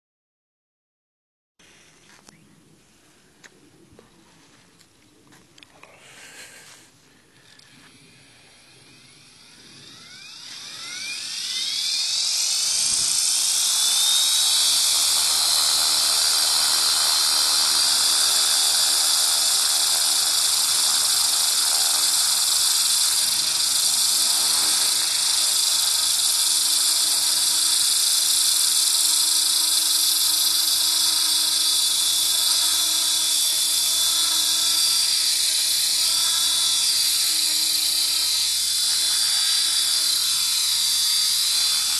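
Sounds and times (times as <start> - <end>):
model helicopter motor whine: 5.9 - 41.9
rotor buzz: 6.0 - 41.9.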